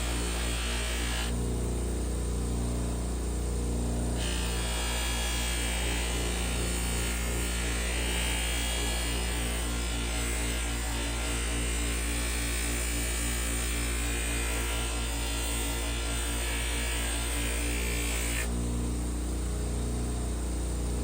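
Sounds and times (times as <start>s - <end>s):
electric hum and buzz: 0.0s - 21.0s.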